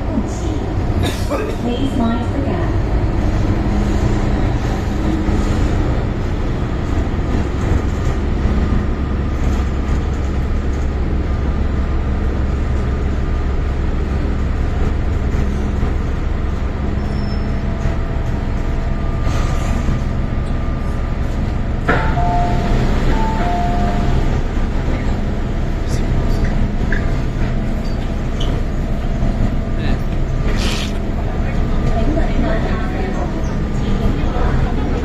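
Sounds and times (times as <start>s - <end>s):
train car rumble and hum: 0.0s - 35.0s.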